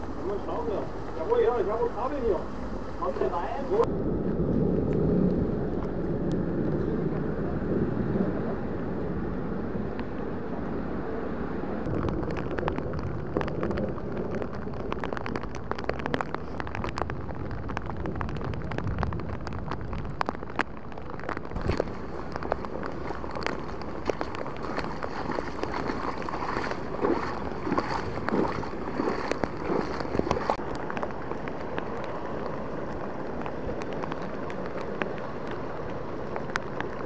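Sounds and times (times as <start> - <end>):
floodwater rushing: 0.0 - 3.9, 5.4 - 37.0
raindrops pattering close by: 0.0 - 10.3, 11.8 - 37.0.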